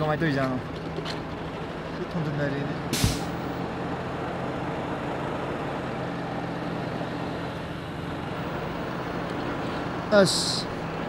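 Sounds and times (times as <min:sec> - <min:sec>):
engine idling: 0:00.0 - 0:11.0
street traffic noise: 0:00.0 - 0:11.0.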